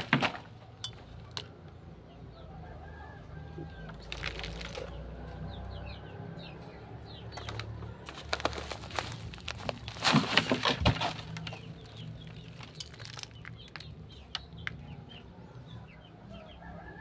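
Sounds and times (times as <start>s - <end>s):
small birds chirping: 0.6s - 17.0s.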